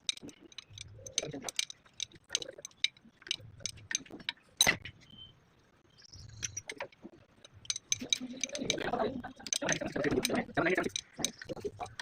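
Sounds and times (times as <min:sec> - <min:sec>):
metal tools clinking: 0:00.0 - 0:04.9, 0:06.2 - 0:12.0.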